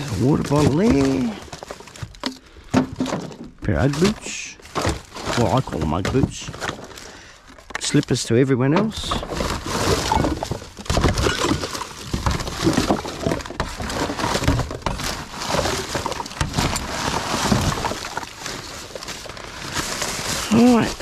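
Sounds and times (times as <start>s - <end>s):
bottles and cans clinking: 0.0s - 8.0s, 8.7s - 20.9s
plastic bags rustling: 0.0s - 21.0s.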